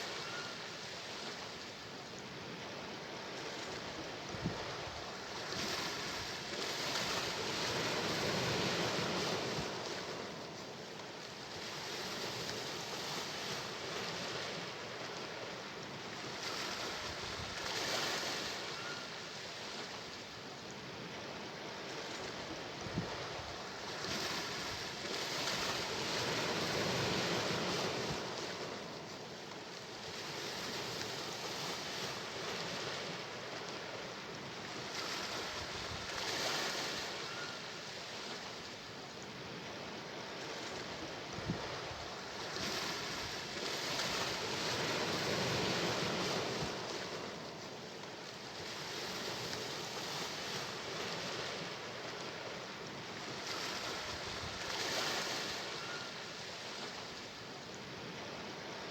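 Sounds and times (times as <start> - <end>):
sea waves washing on shore: 0.0 - 58.9.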